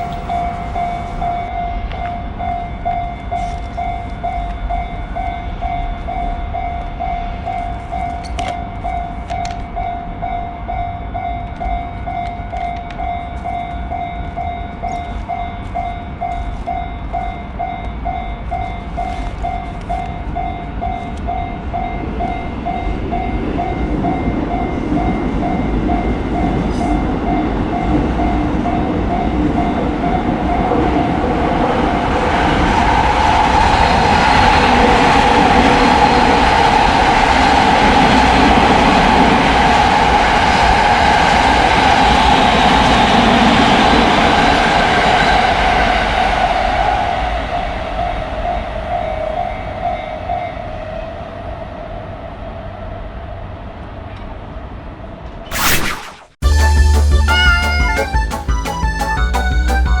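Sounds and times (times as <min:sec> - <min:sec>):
level-crossing warning bell clanging: 0:00.0 - 0:46.1, 0:47.6 - 0:52.5
rumble of passing train: 0:00.0 - 0:55.4.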